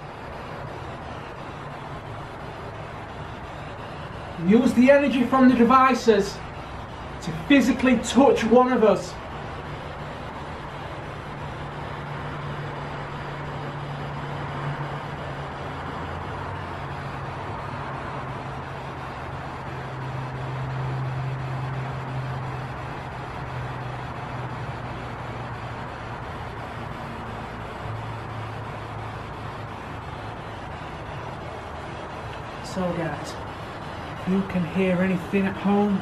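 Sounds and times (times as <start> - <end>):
low wavering hum: 0.0 - 36.0
steady rushing noise: 0.0 - 36.0.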